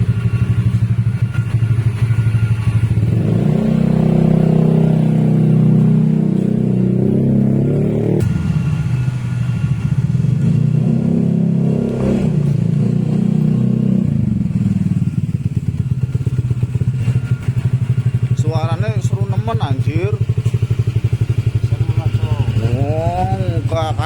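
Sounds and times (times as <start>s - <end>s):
motorcycle exhaust note: 0.0s - 24.0s.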